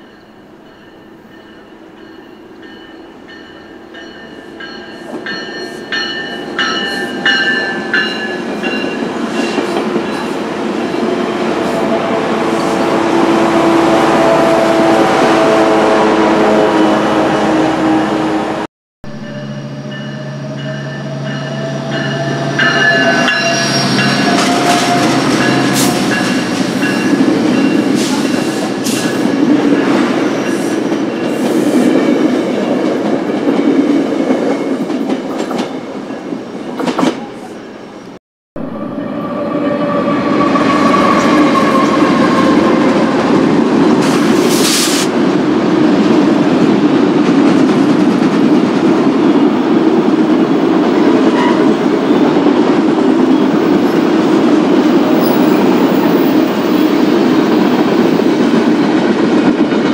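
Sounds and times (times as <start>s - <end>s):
diesel train passing: 0.0s - 59.9s.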